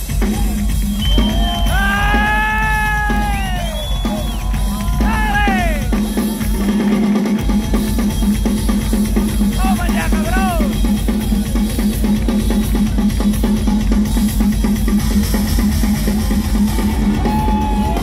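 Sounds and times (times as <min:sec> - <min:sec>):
rock drum solo: 0:00.0 - 0:18.0.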